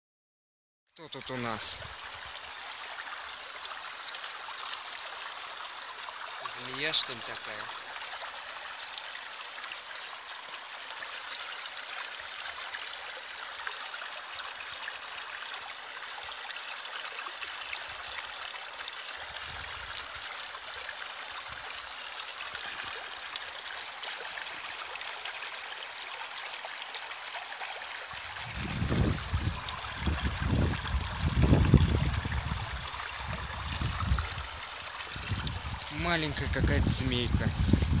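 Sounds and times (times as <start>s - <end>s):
stream trickling over stones: 1.0s - 38.0s.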